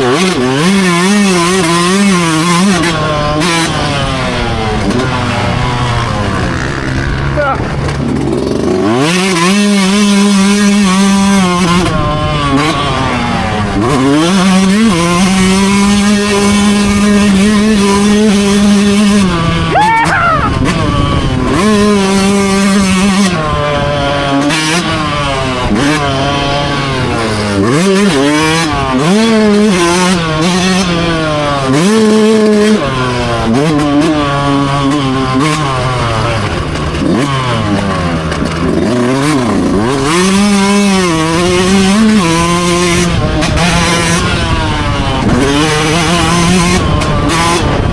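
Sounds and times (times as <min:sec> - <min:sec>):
dirt bike engine revving hard: 0:00.0 - 0:47.9.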